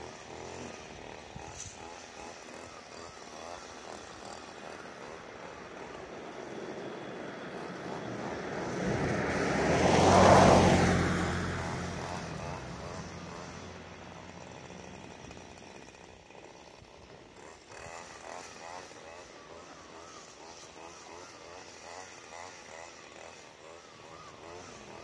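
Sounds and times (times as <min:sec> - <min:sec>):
gas string trimmer running: 0:00.0 - 0:25.0.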